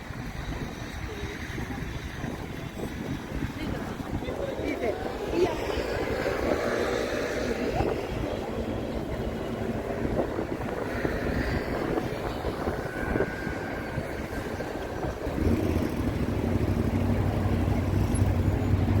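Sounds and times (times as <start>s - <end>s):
city street traffic: 0.0s - 19.0s
vehicle engine hum: 0.0s - 19.0s.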